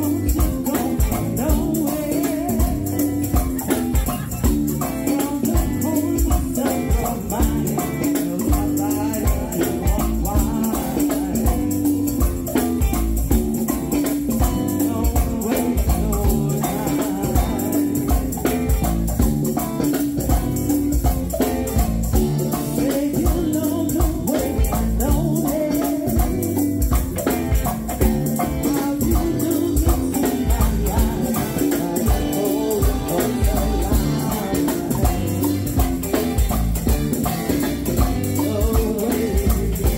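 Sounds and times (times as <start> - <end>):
person singing: 0.0 - 20.4, 21.7 - 39.9
bass and electric guitar: 0.0 - 39.9
drum kit and congas groove: 0.0 - 39.9
shakers: 0.0 - 39.9.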